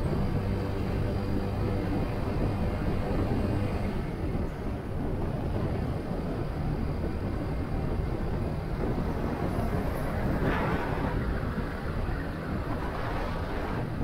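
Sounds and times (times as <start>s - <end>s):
road noise: 0.0s - 14.0s
rushing wind: 0.0s - 14.0s.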